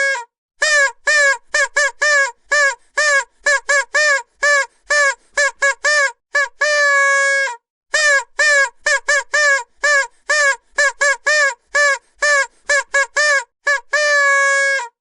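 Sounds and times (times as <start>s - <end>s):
vuvuzela tooting: 0.0s - 15.0s.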